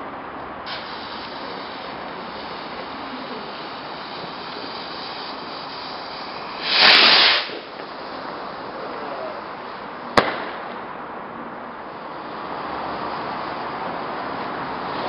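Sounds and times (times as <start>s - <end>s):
steady hiss: 0.0s - 15.0s
firework rocket whoosh: 0.6s - 15.0s.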